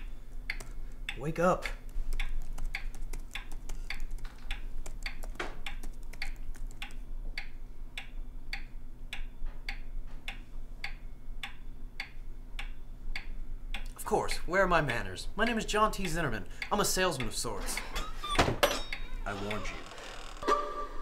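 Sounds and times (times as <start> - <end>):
wall clock ticking: 0.0 - 17.9
low steady hum: 0.0 - 21.0.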